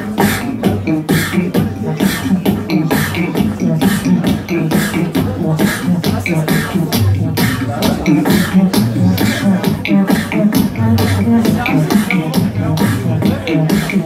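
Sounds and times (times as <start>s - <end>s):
beatboxing snare hits: 0.0s - 14.0s
hummed bass line: 0.0s - 14.0s.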